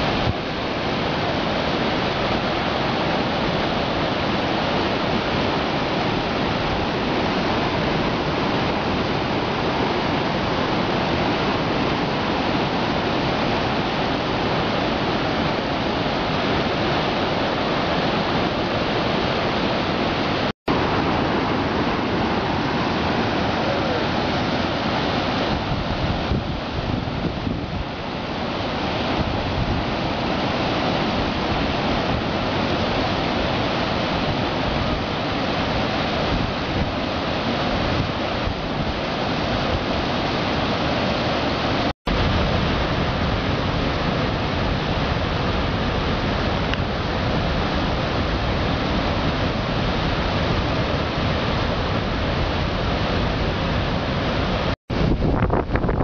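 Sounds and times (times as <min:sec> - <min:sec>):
creek rushing over rocks: 0:00.0 - 0:56.0.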